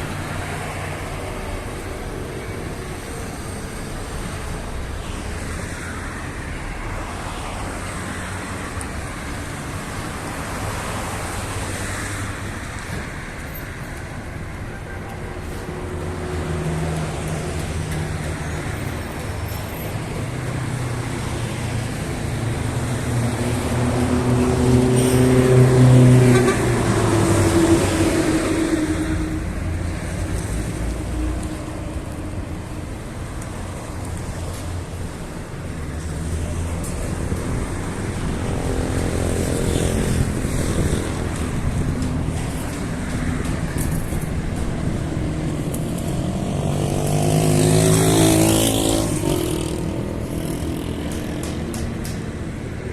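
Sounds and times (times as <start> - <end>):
vehicles driving past: 0.0 - 52.9.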